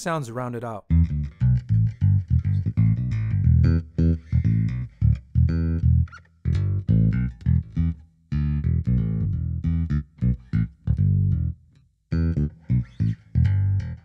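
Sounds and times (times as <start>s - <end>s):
plucked bass line: 0.9s - 14.0s.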